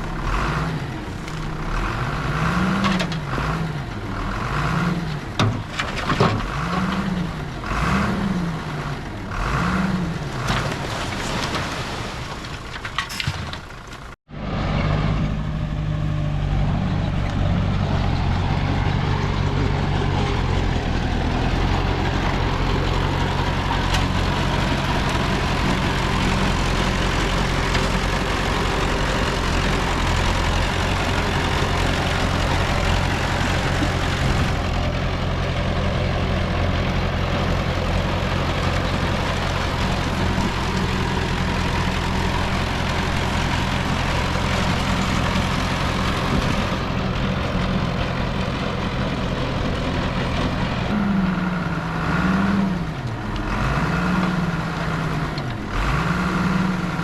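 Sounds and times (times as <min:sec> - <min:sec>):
heavy diesel engine running: 0:00.0 - 0:10.9, 0:13.1 - 0:57.0.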